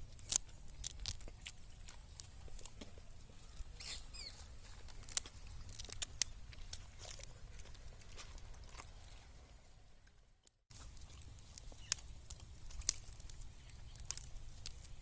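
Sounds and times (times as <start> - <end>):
peanut shells cracking: 0.0 - 3.7, 4.7 - 9.0, 10.7 - 15.0.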